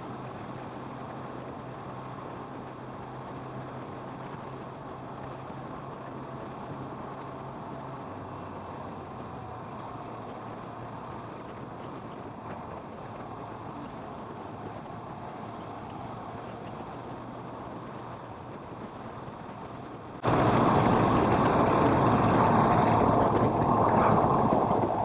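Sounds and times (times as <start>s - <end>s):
motorcycle engine hum: 0.0s - 25.0s
wind and road noise: 0.0s - 25.0s.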